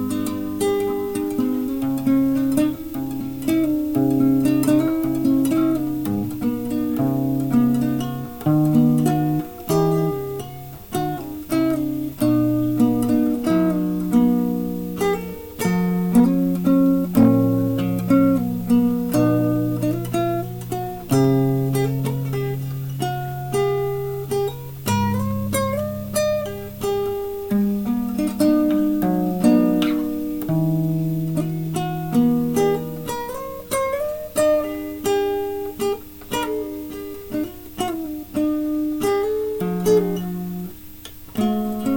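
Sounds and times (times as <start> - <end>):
plucked string instrument music: 0.0 - 41.9.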